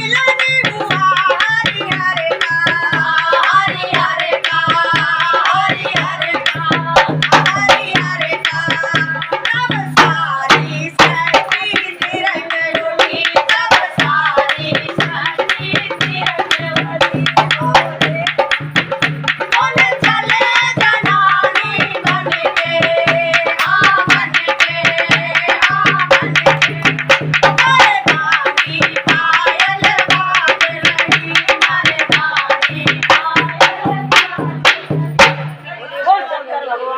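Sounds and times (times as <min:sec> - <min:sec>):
fast hand drum rhythm: 0:00.0 - 0:35.6.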